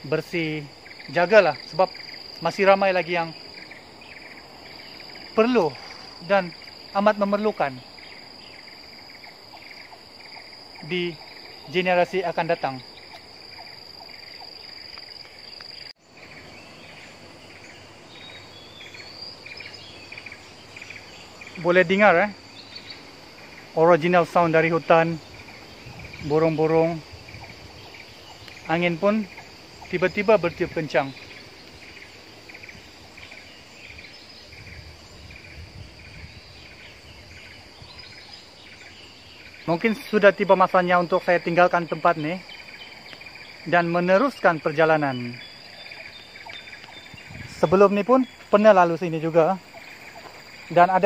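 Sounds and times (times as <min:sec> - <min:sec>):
high-pitched insect drone: 0:00.0 - 0:51.0
short insect chirps: 0:00.0 - 0:51.0
wind gusts: 0:00.0 - 0:51.0.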